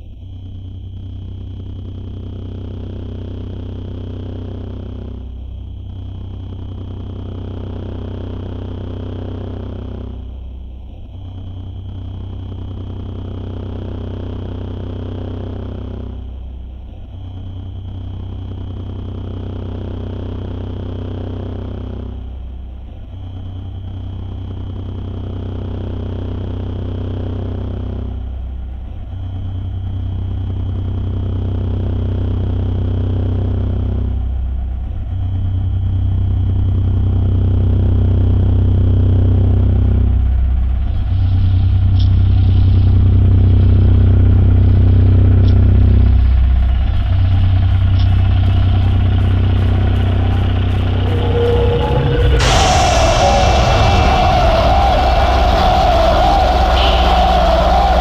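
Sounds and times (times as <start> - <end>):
deep electronic drone: 0.0 - 58.0.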